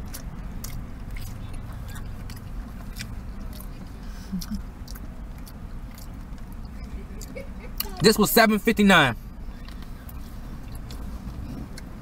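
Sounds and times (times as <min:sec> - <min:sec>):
person chewing: 0:00.0 - 0:07.4, 0:09.6 - 0:12.0
steady low hum: 0:00.0 - 0:12.0.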